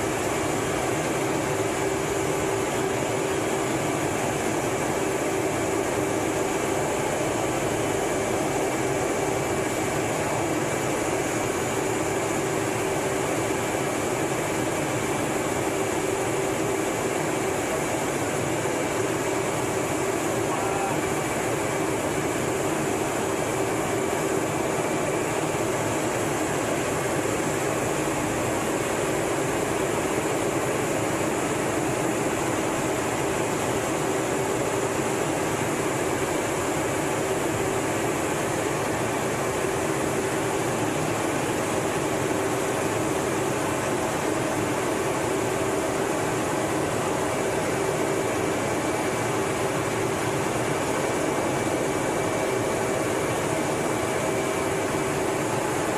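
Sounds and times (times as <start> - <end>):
jet cockpit engine and air noise: 0.0 - 55.9.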